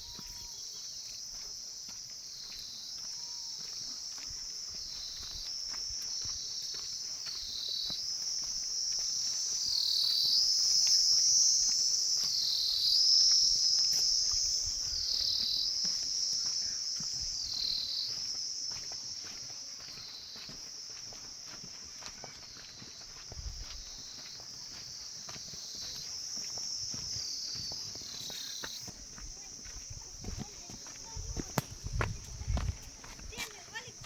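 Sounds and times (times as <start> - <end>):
insects calling in shrill chorus: 0.0 - 34.0.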